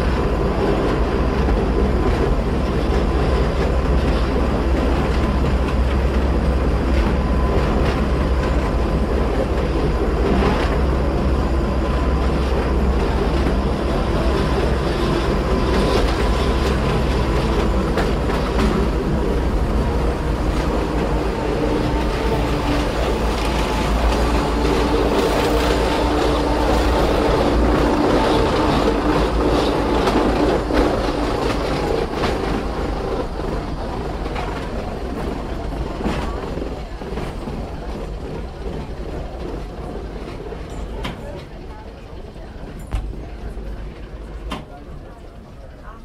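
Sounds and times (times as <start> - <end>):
continuous hum: 0.0 - 46.0
train running rumble: 0.0 - 46.0
wheels clicking on track: 0.0 - 46.0.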